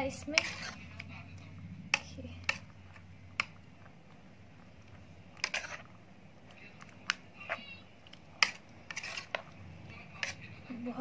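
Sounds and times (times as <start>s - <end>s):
spoon stirring thick yogurt: 0.0s - 11.0s
spoon scraping: 0.1s - 10.7s.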